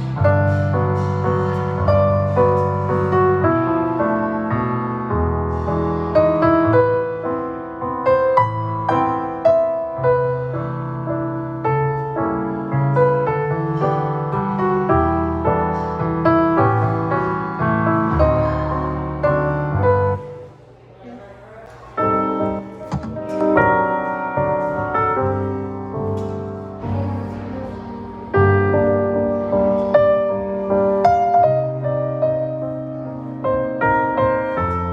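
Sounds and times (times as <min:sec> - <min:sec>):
gentle piano music: 0:00.0 - 0:20.6, 0:21.7 - 0:34.9.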